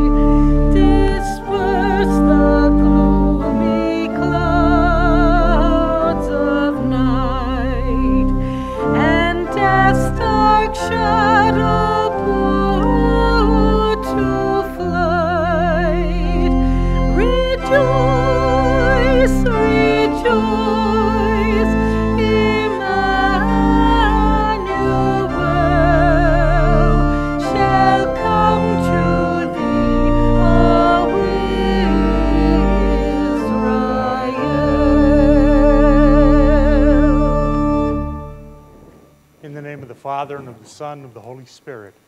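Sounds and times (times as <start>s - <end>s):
person singing with vibrato: 0.0s - 38.8s
church organ playing hymn: 0.0s - 39.1s.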